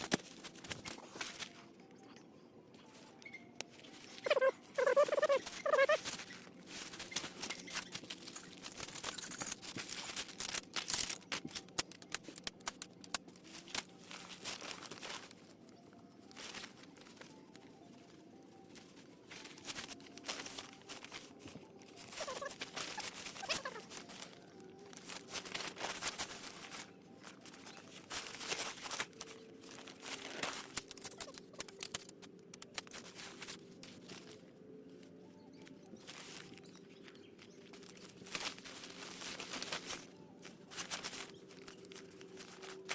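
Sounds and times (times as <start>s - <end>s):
bedding rustling and crinkling: 0.0s - 1.8s, 2.9s - 42.9s.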